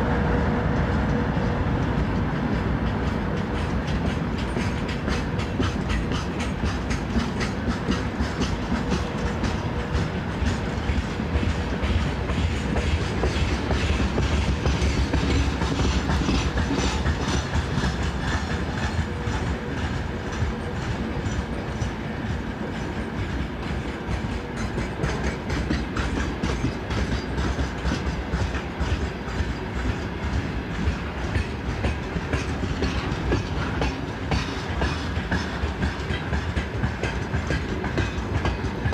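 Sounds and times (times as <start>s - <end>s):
heavy train rumble: 0.0s - 38.9s
train wheels clickety-clack: 0.0s - 38.9s.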